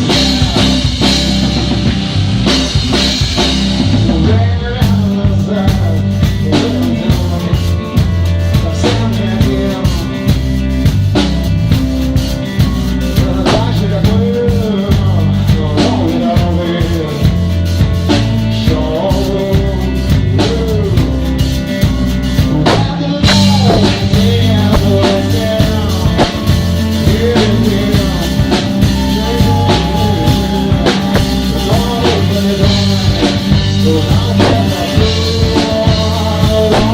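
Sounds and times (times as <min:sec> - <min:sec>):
bass line: 0:00.0 - 0:36.9
drum kit beat: 0:00.0 - 0:36.9.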